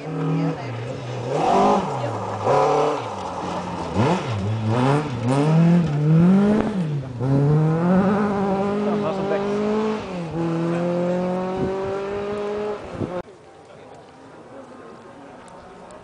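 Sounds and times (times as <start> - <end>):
rally car engine revving: 0.0 - 13.2.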